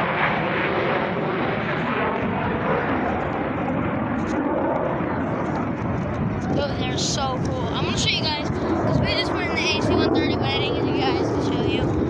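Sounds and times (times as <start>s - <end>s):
aircraft engine noise: 0.0s - 12.0s.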